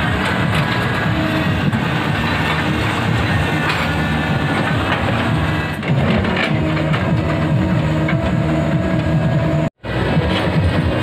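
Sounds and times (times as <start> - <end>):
excavator diesel engine under load: 0.0 - 11.0
steel crawler tracks clattering: 0.0 - 11.0.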